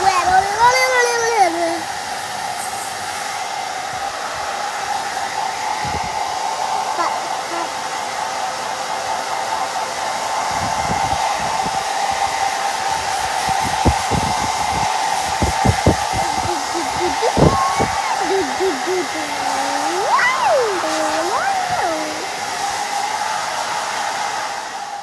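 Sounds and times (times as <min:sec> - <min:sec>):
hair dryer blowing: 0:00.0 - 0:25.0.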